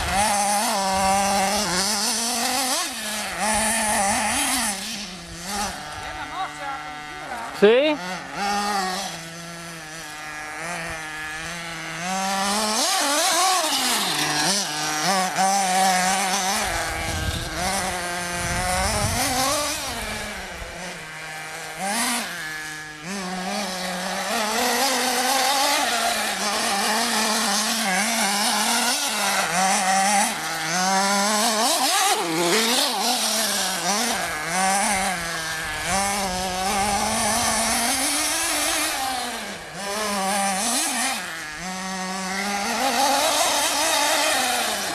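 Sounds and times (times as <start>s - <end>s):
rc buggy engine revving: 0.0s - 44.9s.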